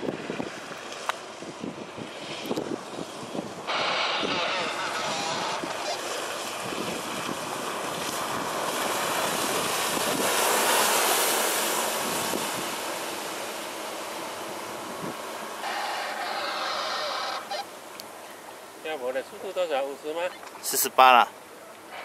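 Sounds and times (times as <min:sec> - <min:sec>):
boat spray and churned water: 0:00.0 - 0:22.0.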